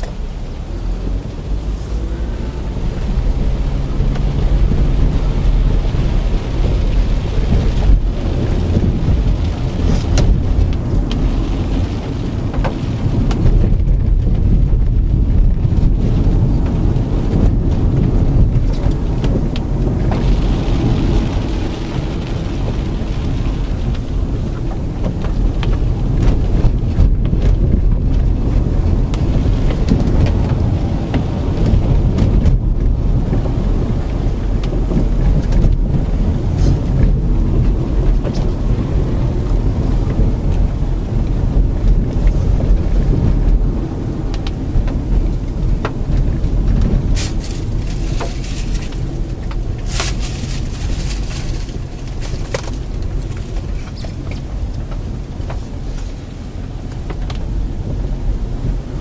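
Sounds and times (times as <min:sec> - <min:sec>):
engine hum: 0:00.0 - 0:59.0
tyre and road rumble: 0:00.0 - 0:59.0
wind noise: 0:00.0 - 0:59.0.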